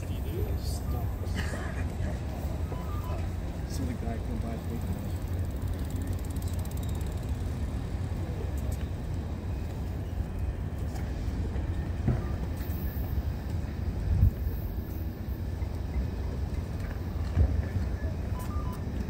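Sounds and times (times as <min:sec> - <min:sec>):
train rumbling on tracks: 0:00.0 - 0:19.0.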